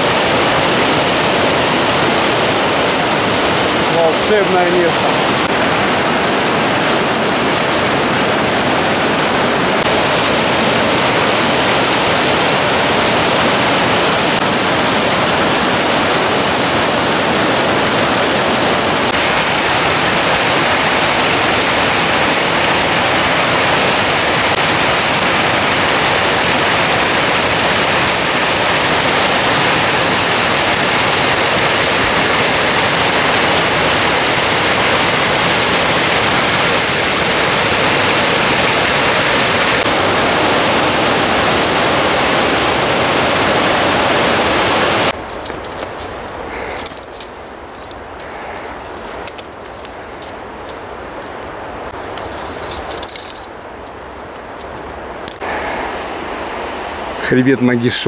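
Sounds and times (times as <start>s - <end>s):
brook cascading over stones: 0.0s - 55.5s
river rushing over rocks: 0.0s - 56.3s.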